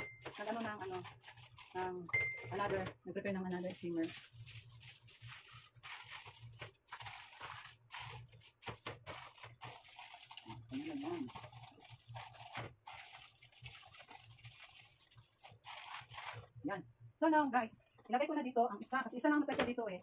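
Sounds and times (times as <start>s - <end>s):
aluminium foil crinkling: 0.0s - 16.6s.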